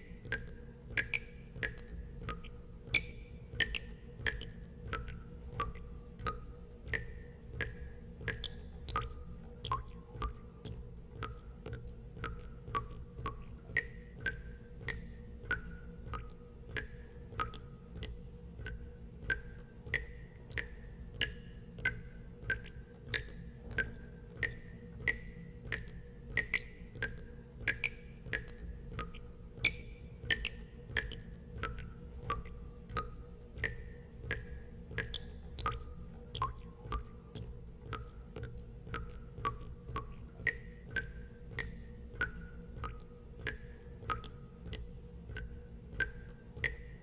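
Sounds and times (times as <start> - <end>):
steady low hum: 0.0 - 47.0
water drops plinking into water: 0.0 - 47.0.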